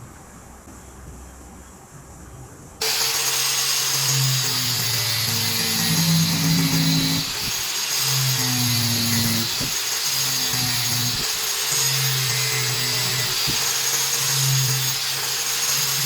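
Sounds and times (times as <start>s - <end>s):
power tool hissing whine: 2.8s - 16.0s.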